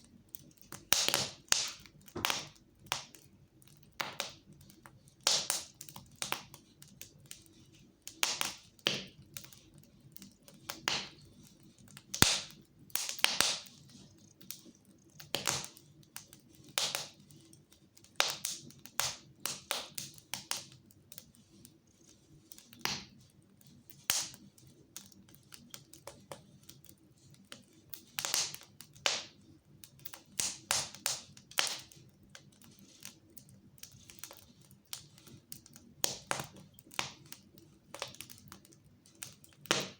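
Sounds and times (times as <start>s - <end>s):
fire crackling: 0.0s - 39.9s
sharp pops and snaps of fire: 0.0s - 39.9s.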